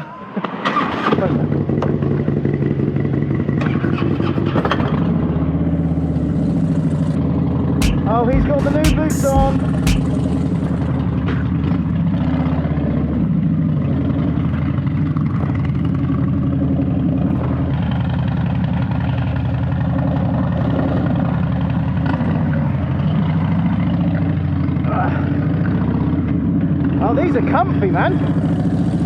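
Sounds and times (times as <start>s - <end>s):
motorcycle engine running: 1.4s - 29.0s.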